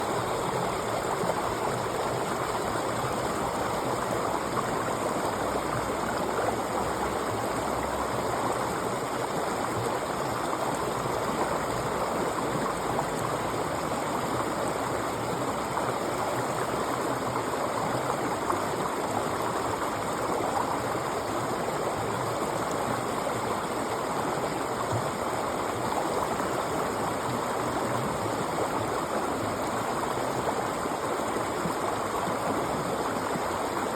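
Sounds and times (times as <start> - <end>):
river flowing over rocks: 0.0 - 33.9.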